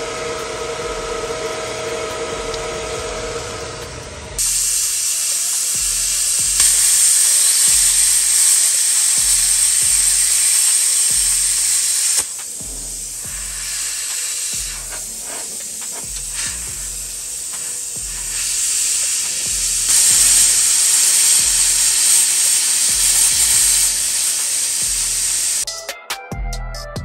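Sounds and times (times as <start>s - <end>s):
plasma cutter hissing: 0.0s - 25.6s
background music with low beat: 0.0s - 27.0s.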